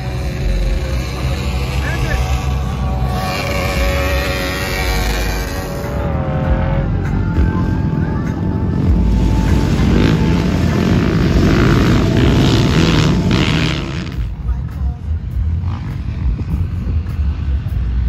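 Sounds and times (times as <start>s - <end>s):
off-road engines revving: 0.0s - 18.0s.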